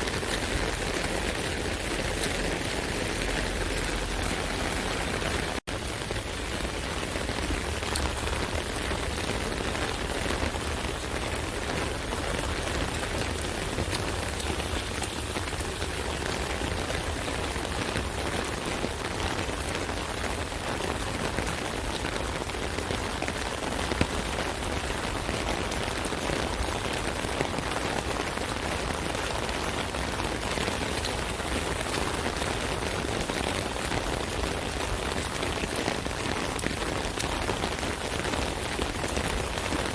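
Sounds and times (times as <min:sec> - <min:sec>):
rain falling on an umbrella: 0:00.0 - 0:39.9.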